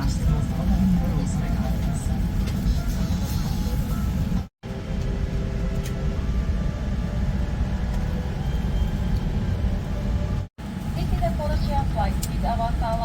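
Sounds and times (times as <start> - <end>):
airliner cabin low rumble: 0.0 - 13.0.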